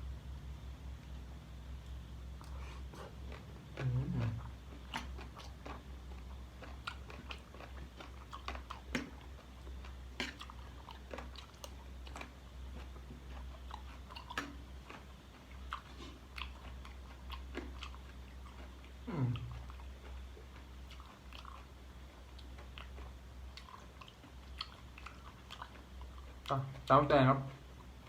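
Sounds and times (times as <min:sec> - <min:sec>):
steady low hum: 0:00.0 - 0:28.0
person chewing and crunching: 0:02.4 - 0:28.0.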